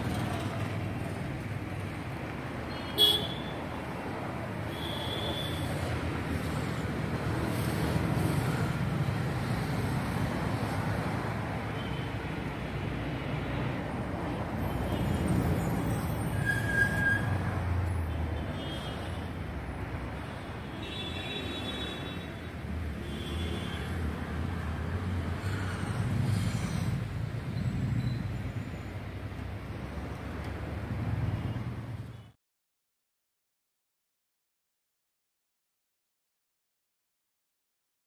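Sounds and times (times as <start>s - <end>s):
hum of passing vehicles: 0.0s - 32.3s.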